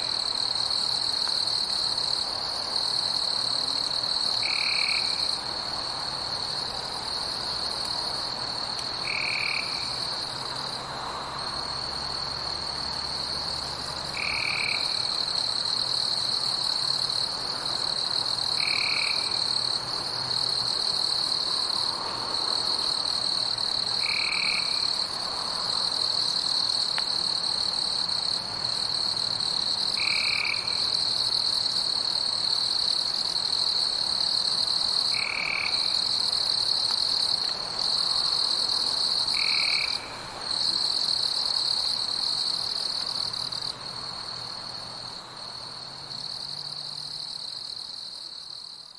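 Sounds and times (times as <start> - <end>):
high-pitched insect chorus: 0.0 - 48.9.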